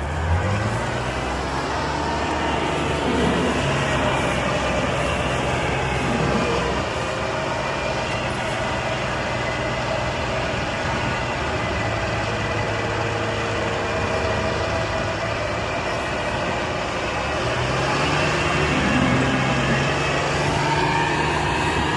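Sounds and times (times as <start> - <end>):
heavy diesel engines droning: 0.0 - 21.9.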